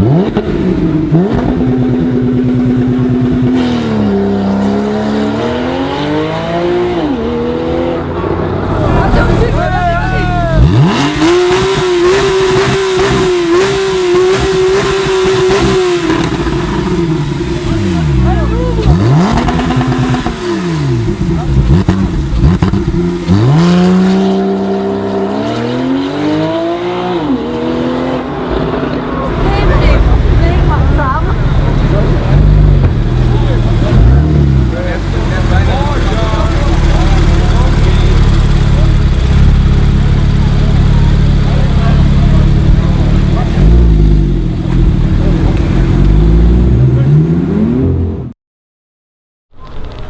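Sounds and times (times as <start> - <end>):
car engine revving: 0.0 - 48.3.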